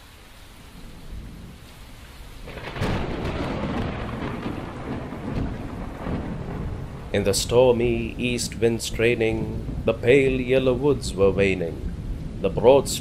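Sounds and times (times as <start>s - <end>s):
steady rain: 0.0s - 13.0s
low rumble of thunder: 0.7s - 13.0s.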